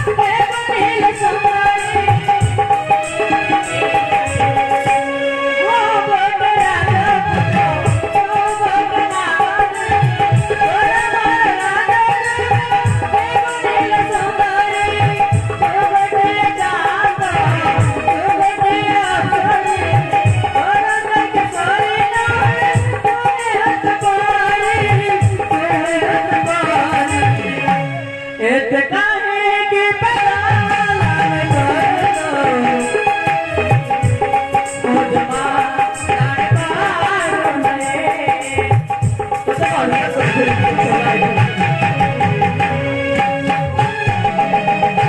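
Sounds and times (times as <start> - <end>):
drum beats: 0.0 - 5.1, 6.1 - 28.0, 30.0 - 45.0
song with singing voice: 0.0 - 45.0.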